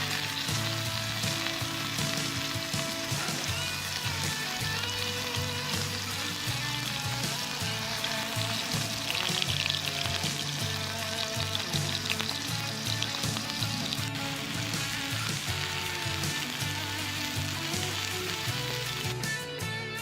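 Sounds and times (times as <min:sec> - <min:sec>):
steak sizzling in a pan: 0:00.0 - 0:19.8.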